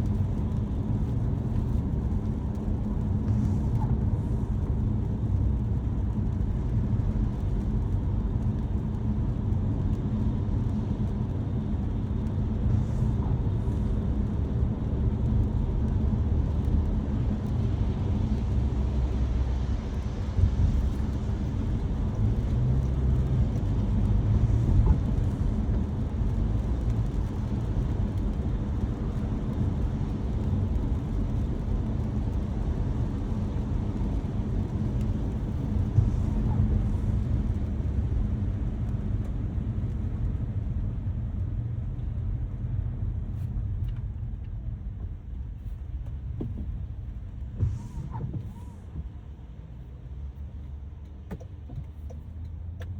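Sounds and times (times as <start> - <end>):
car engine rumble: 0.0 - 52.9
tyres on wet road: 0.0 - 52.9.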